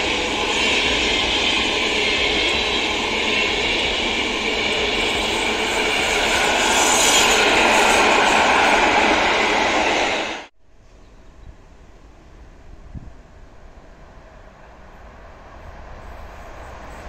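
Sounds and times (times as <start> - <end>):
train wheels rushing on rails: 0.0 - 10.5, 13.8 - 17.0.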